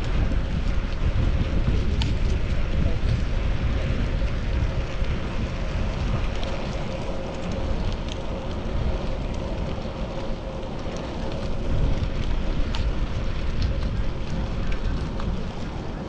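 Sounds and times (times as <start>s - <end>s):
road rumble: 0.0s - 16.0s
small ticks: 0.0s - 16.0s
wind noise on microphone: 0.0s - 16.0s.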